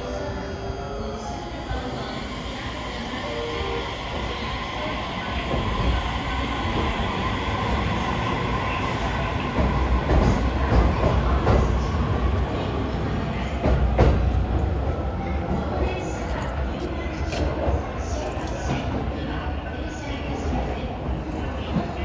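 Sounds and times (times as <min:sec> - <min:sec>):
electric train rumbling: 0:00.0 - 0:19.4.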